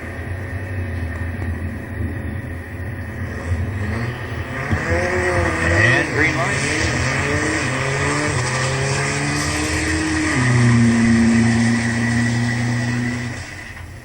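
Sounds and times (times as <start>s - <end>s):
drag racing engine at full throttle: 0.0s - 14.0s.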